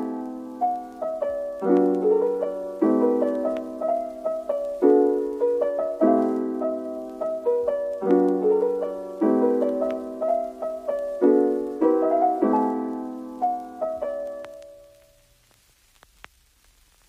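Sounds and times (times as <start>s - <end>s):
soft piano chords: 0.0s - 15.2s.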